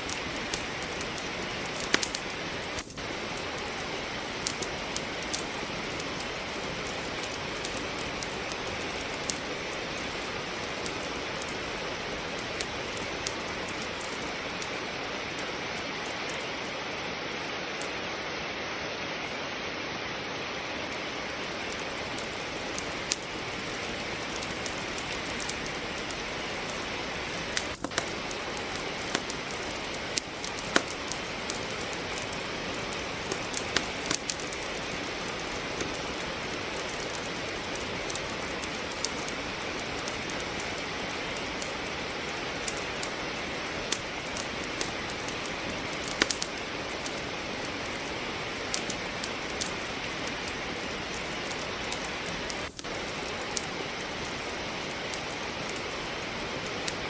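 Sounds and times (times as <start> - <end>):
firewood crackling and popping: 0.0 - 57.0
rain falling: 0.0 - 57.0.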